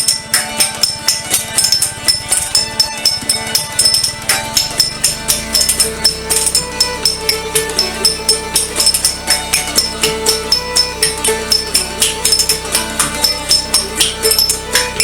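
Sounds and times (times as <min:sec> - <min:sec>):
background music with steady beat: 0:00.0 - 0:15.0
tambourine-like percussion: 0:00.0 - 0:15.0.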